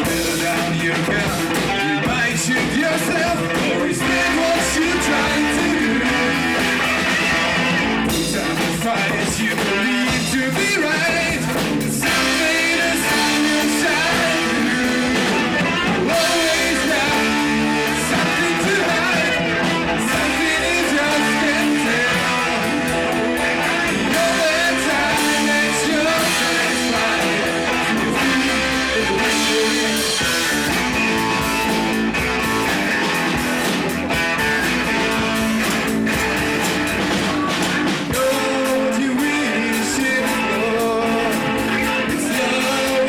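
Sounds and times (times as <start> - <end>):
rock music with guitar and drums: 0.0 - 43.0.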